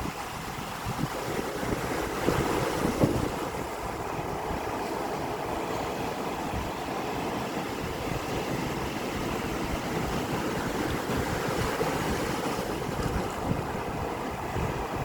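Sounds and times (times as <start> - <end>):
sea surf washing in: 0.0 - 15.0.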